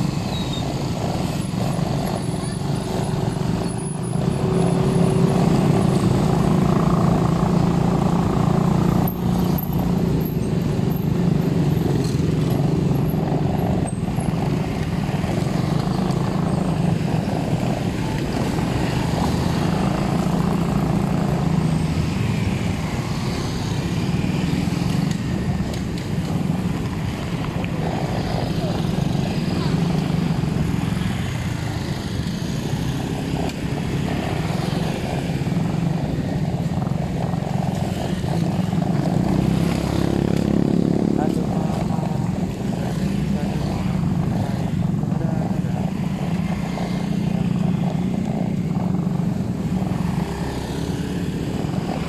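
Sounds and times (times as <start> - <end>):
road noise: 0.0 - 52.0
vehicle engine running: 0.0 - 52.0.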